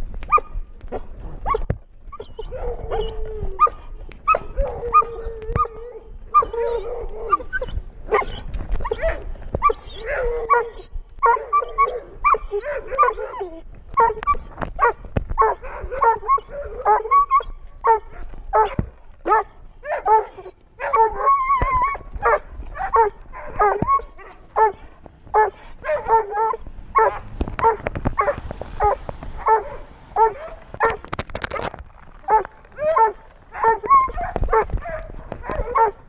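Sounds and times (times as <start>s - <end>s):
puppy yipping barking and whining: 0.3s - 24.8s, 25.4s - 31.0s, 32.3s - 36.0s.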